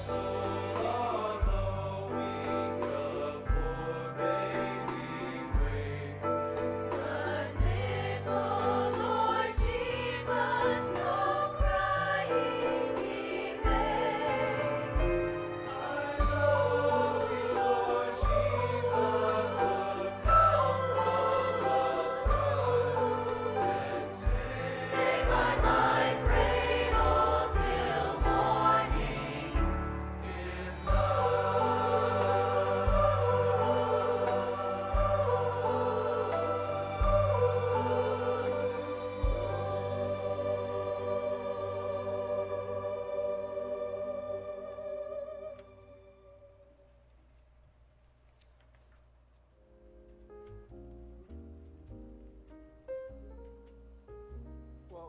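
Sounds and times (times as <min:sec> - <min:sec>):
instrumental accompaniment: 0:00.0 - 0:46.6
choir singing: 0:00.0 - 0:46.7.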